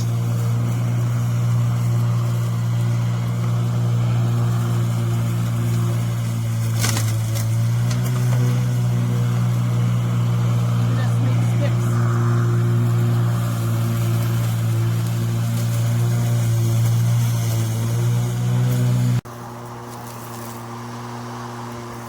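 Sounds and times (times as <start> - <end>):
electric lawn mower humming: 0.0 - 22.0
grass rustle: 0.0 - 22.0.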